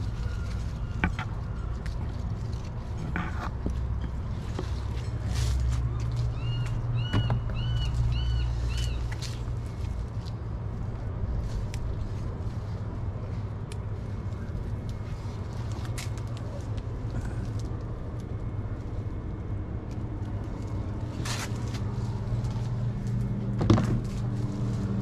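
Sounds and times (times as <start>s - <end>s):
low background hum: 0.0s - 25.0s
rustling stems and leaves: 0.0s - 25.0s.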